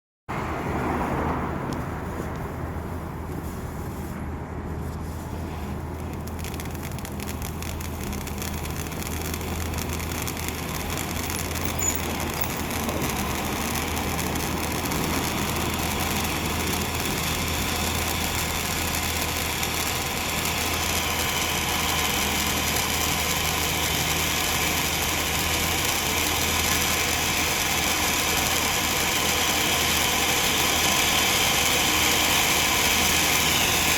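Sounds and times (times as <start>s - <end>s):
firework fountain hissing and crackling: 5.2s - 33.9s.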